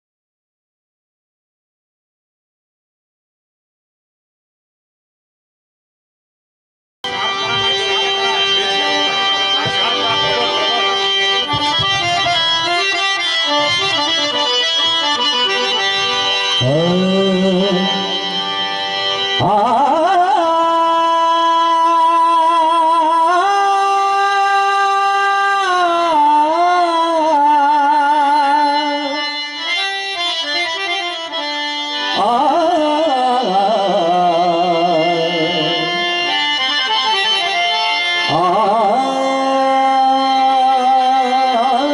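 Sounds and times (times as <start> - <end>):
harmonium chords and melody: 7.0 - 41.9.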